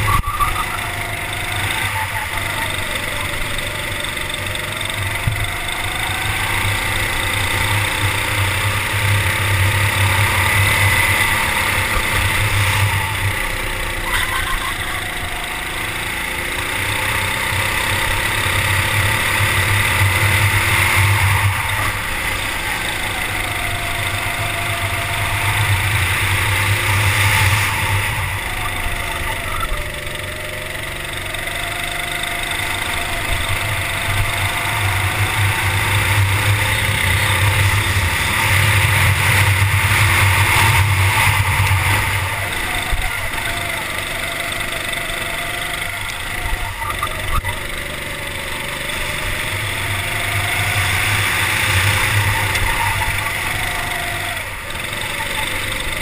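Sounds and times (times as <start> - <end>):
go-kart engine: 0.0 - 56.0.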